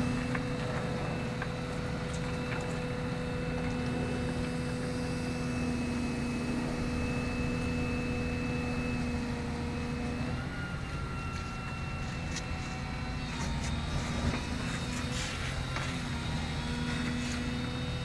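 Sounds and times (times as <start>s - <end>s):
excavator diesel engines running: 0.0s - 18.0s.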